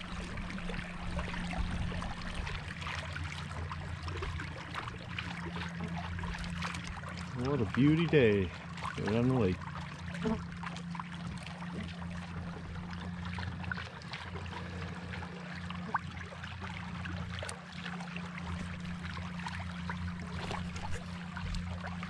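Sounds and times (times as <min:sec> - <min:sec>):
low motor hum: 0:00.0 - 0:22.0
water rushing along canoe hull: 0:00.0 - 0:22.0.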